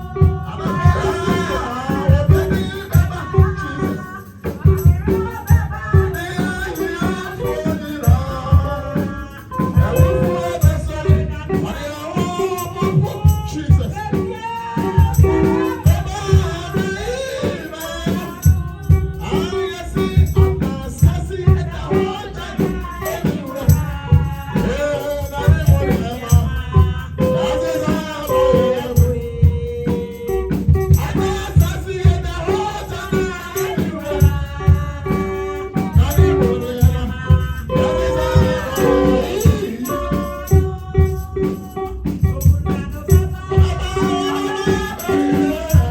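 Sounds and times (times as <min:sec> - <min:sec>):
shaker rattling: 0:00.0 - 0:45.9
steady drumbeat: 0:00.0 - 0:45.9
voices singing a praise song: 0:00.0 - 0:45.9.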